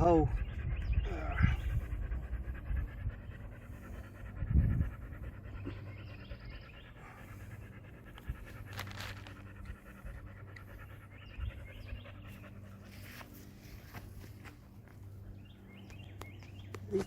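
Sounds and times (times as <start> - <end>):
low steady hum: 0.0 - 17.0
rapid panting: 0.2 - 15.2.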